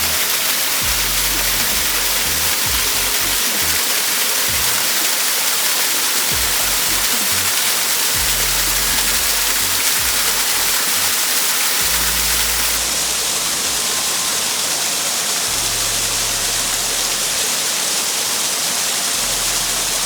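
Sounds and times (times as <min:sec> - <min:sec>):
soft low music: 0:00.0 - 0:17.7, 0:18.9 - 0:20.0
waterfall crashing into pool: 0:00.0 - 0:20.0.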